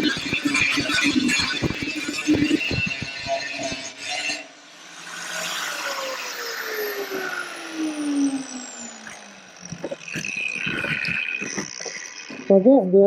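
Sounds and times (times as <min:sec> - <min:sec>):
angle grinder winding down: 0:00.0 - 0:12.6.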